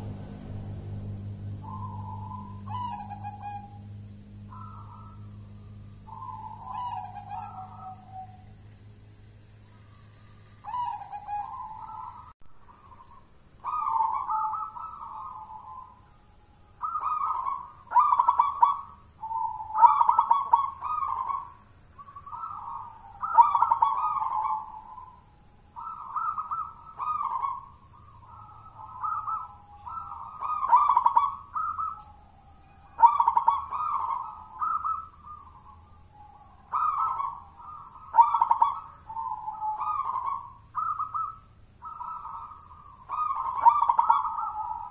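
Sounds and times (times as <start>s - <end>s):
dove cooing: 0.0s - 8.6s, 9.7s - 44.9s.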